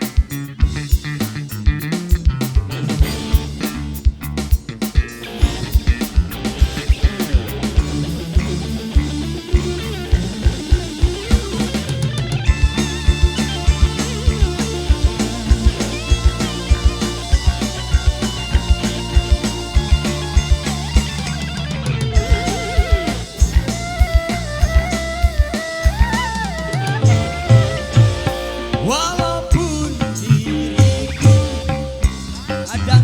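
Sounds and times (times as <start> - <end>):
bass: 0.0 - 33.0
steady drum beat: 0.0 - 33.0
guitar melody: 2.3 - 33.0.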